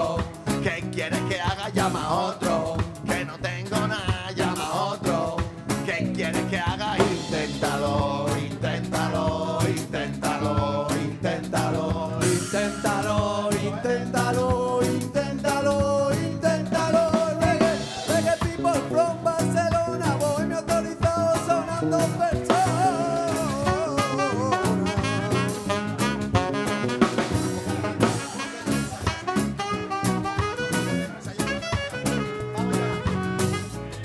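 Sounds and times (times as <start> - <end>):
drum kit beat: 0.0 - 34.0
electric guitar: 0.0 - 34.0
live band playing upbeat ska song: 0.0 - 34.0
strummed acoustic guitars: 0.0 - 34.0.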